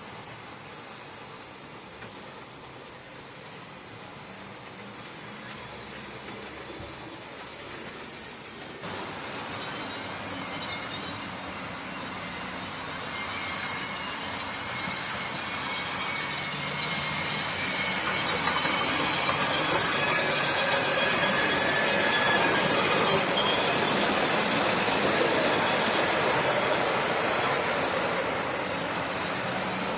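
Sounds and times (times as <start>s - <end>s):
model train running on track: 0.0s - 29.9s.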